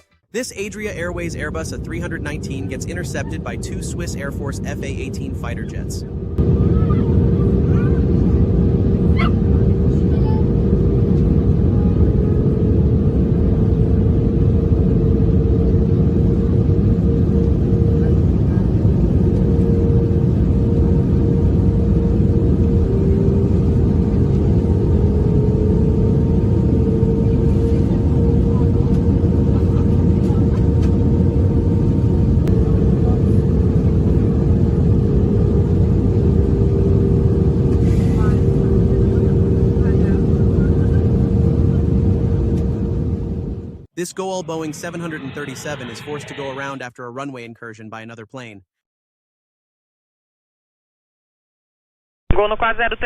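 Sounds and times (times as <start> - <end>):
aircraft rumbling in flight: 0.1 - 46.8
constant hum: 0.3 - 46.8.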